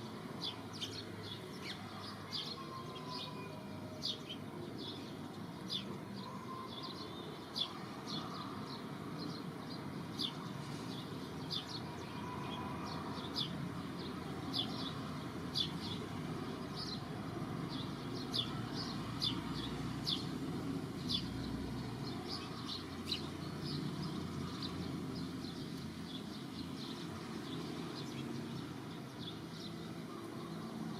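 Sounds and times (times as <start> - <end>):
low outdoor background noise: 0.0 - 30.9.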